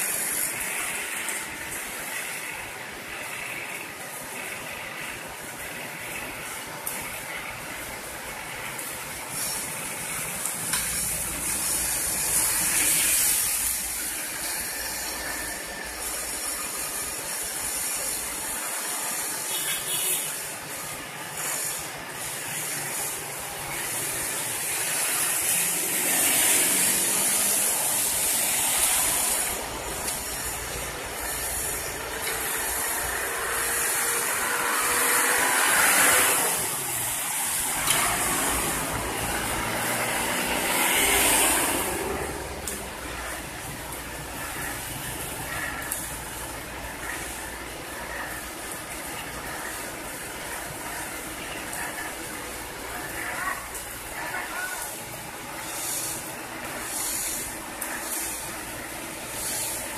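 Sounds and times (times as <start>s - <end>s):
paving machinery running: 0.0s - 54.2s
bus passing on wet road: 0.0s - 59.9s
steady hiss: 0.0s - 59.9s.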